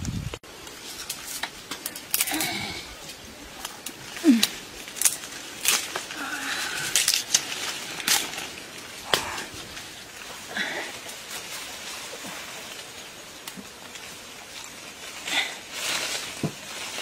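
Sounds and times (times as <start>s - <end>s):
leaves and branches rustling: 0.0s - 17.0s
branches snapping: 0.5s - 17.0s.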